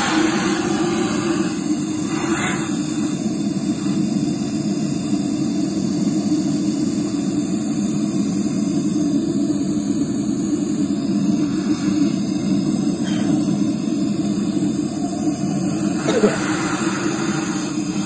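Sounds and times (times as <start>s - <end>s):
gas blowtorch burning: 0.0s - 18.0s.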